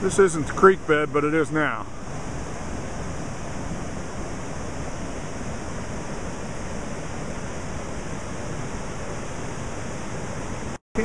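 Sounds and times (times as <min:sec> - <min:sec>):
floodwater rushing through creek: 0:00.0 - 0:11.0.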